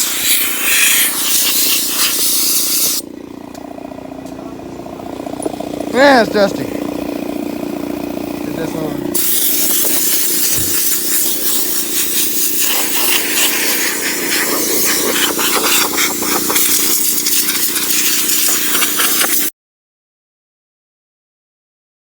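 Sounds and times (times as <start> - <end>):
air blower hissing: 0.0 - 19.5.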